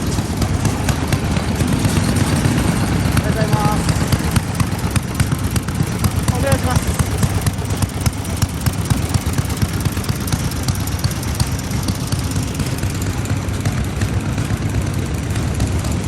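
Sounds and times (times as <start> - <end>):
stationary engines chugging: 0.0 - 16.0.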